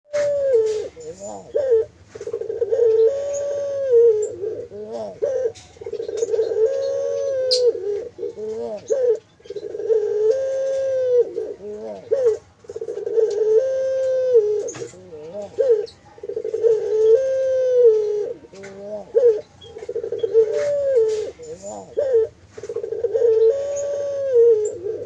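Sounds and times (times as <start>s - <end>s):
dove cooing: 0.1s - 25.0s.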